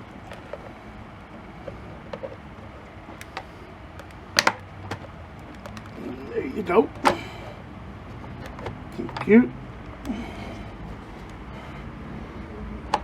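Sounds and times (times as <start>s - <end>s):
plastic helmet parts clicking: 0.0s - 11.8s.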